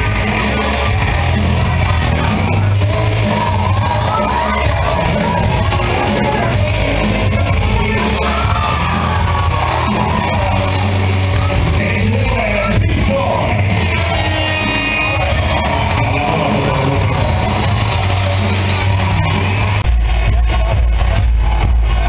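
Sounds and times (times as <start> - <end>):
people shouting: 0.0 - 11.8, 12.4 - 22.0
loud rock music with singing: 0.0 - 22.0.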